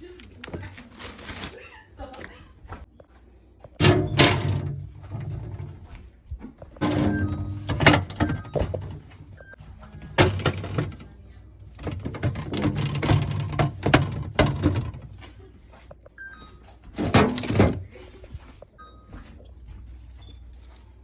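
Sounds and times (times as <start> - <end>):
items knocking and clattering: 0.0 - 1.6, 3.6 - 20.4.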